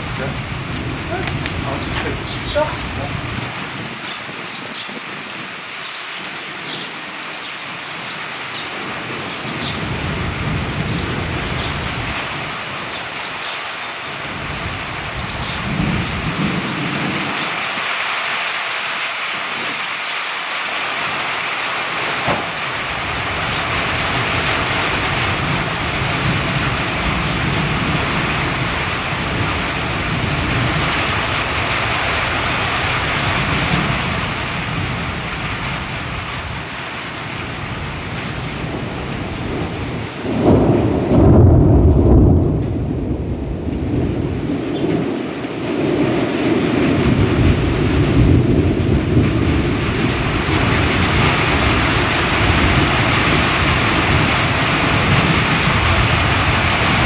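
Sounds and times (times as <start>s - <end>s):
thunder rumbling: 0.0s - 5.5s, 9.0s - 13.2s, 14.3s - 17.8s, 22.0s - 57.0s
heavy rain: 0.0s - 57.0s.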